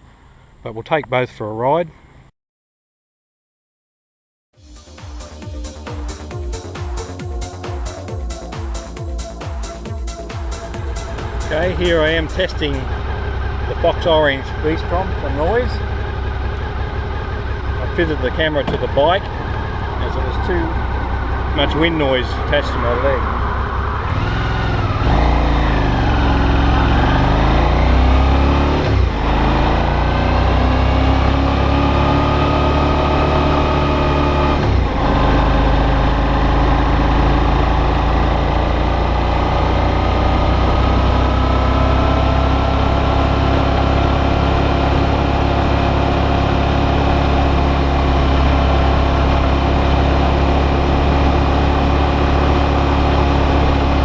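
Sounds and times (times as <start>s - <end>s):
motorcycle engine revving: 4.6s - 54.0s.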